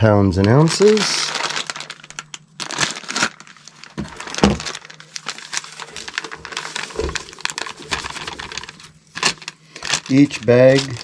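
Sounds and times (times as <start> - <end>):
powder bag rustling: 0.0 - 11.0.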